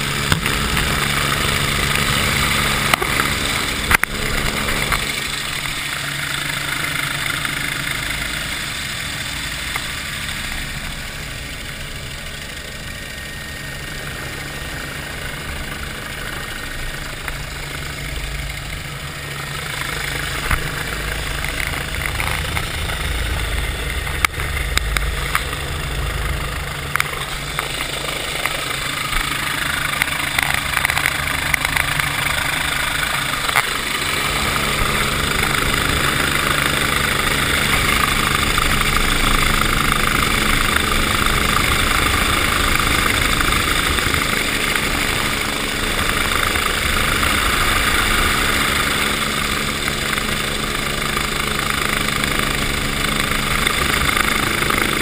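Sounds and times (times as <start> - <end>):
helicopter engine and rotor: 0.0 - 55.0
steady hum: 0.0 - 55.0.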